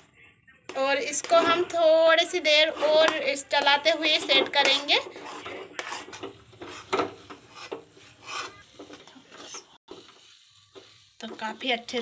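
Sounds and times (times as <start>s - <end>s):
spatula scraping thick mixture in pan: 0.7s - 12.0s.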